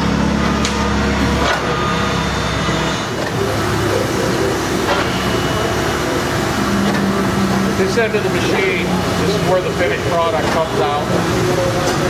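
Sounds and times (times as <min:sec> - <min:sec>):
punching machine hum: 0:00.0 - 0:12.0.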